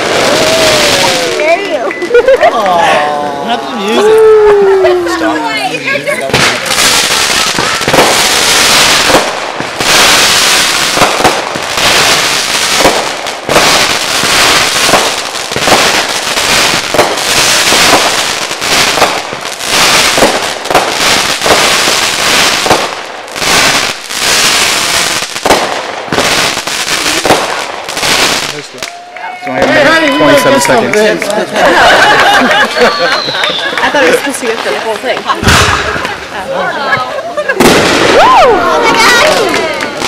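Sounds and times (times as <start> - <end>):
fireworks crackles pops and hiss: 0.0 - 2.4, 4.5 - 31.3, 32.6 - 40.0.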